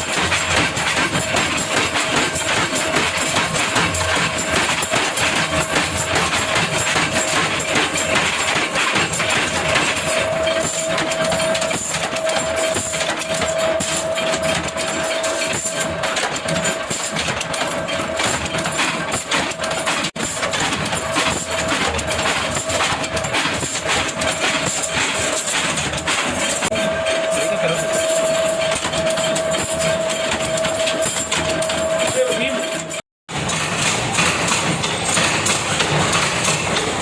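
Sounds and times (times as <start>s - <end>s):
factory machinery clattering: 0.0s - 37.0s
steady machinery hum: 0.0s - 37.0s.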